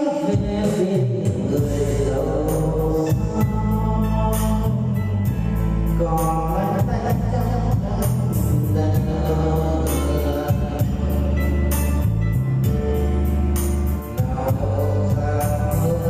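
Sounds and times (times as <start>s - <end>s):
instrumental music with steady beat: 0.0s - 16.0s.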